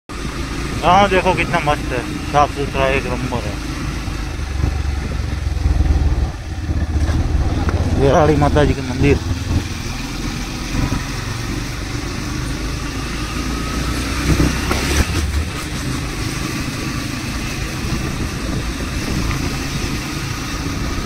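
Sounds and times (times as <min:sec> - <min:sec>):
vehicle engine low rumble: 0:00.1 - 0:21.0.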